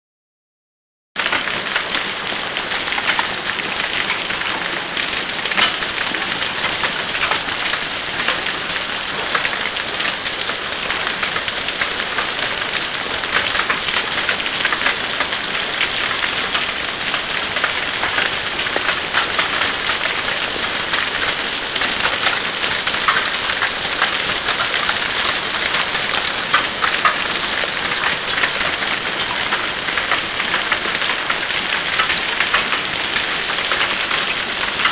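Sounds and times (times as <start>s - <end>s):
hail falling: 1.2s - 34.9s
sharp hail clicks: 1.2s - 34.9s.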